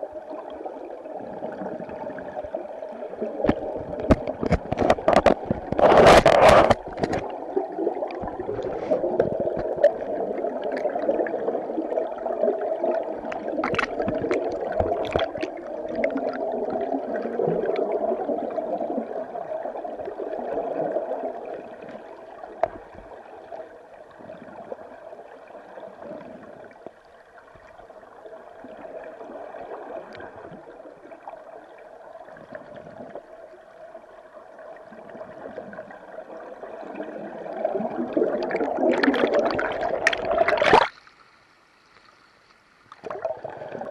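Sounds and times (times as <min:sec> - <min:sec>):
underwater rushing water: 0:00.0 - 0:43.9.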